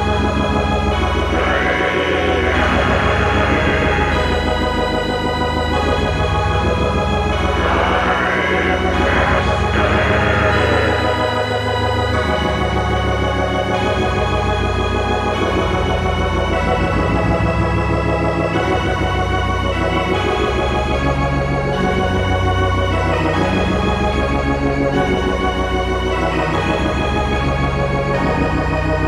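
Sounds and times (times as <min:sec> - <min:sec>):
organ-like keyboard chords: 0:00.0 - 0:29.0.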